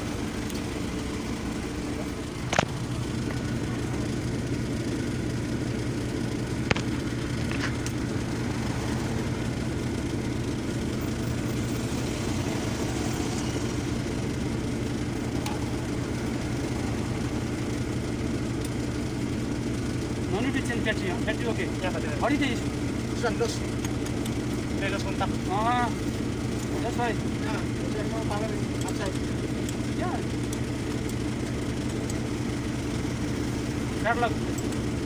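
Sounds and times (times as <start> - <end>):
diesel engine humming: 0.0 - 35.0.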